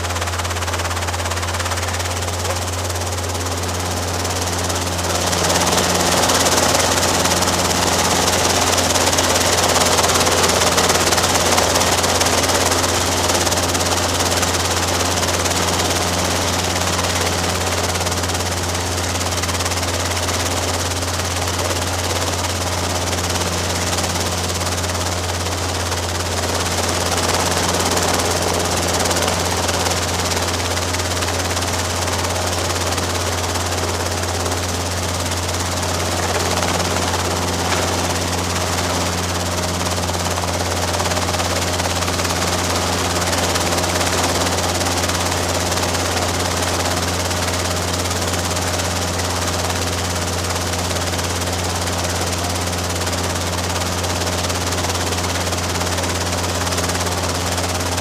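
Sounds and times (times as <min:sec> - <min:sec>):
helicopter running: 0:00.0 - 0:58.0.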